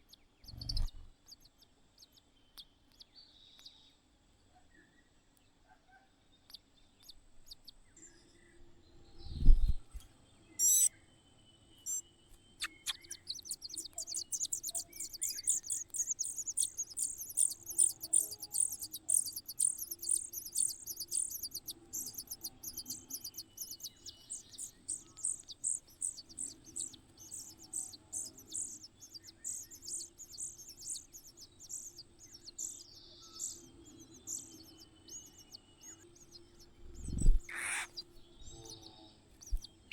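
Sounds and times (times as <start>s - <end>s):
nestling birds cheeping: 0.0s - 3.9s, 10.4s - 39.9s.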